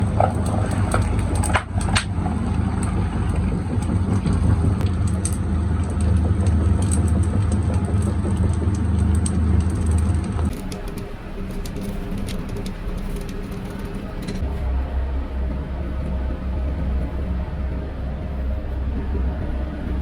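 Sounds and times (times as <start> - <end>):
heavy machinery humming: 0.0 - 20.0.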